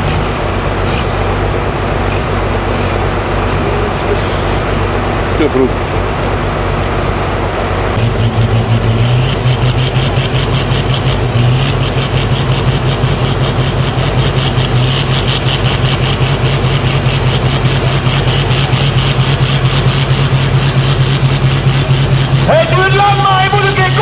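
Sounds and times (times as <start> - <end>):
diesel tractor engine revving: 0.0 - 24.0.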